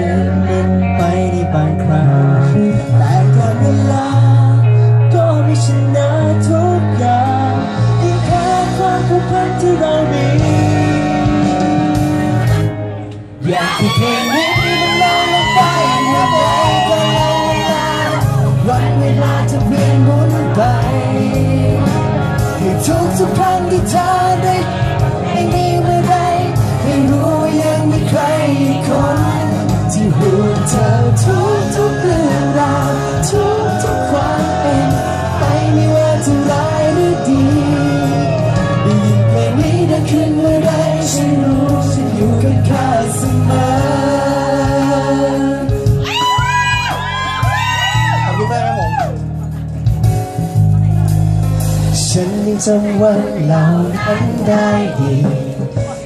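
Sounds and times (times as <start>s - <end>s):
men singing pop song: 0.0s - 12.7s, 13.4s - 48.8s, 51.8s - 56.0s
accompanying music: 0.0s - 56.0s
backing track with bass and beat: 0.0s - 56.0s.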